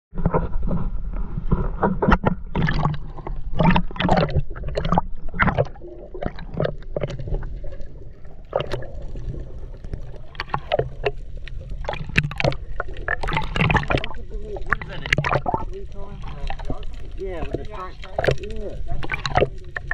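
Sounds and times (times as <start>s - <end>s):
seawater sloshing and gurgling: 0.1s - 19.9s
water splashes: 0.2s - 19.9s.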